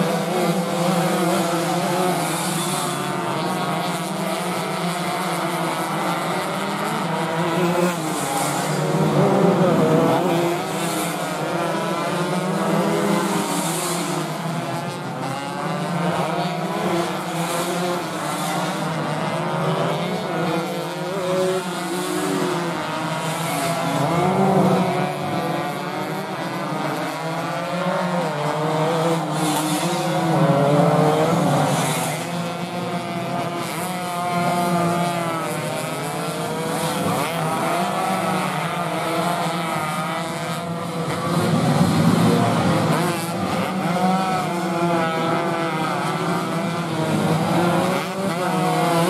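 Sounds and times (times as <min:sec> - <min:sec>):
racing motorcycles revving: 0:00.0 - 0:49.0.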